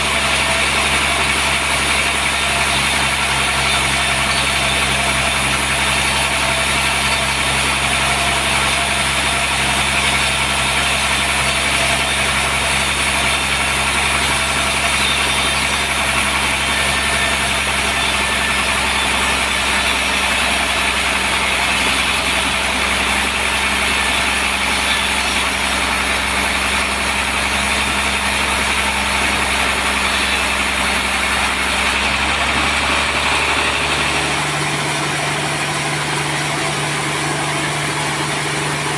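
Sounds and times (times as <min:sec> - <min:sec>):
engine hum: 0:00.0 - 0:38.9
saw whine: 0:00.0 - 0:38.9.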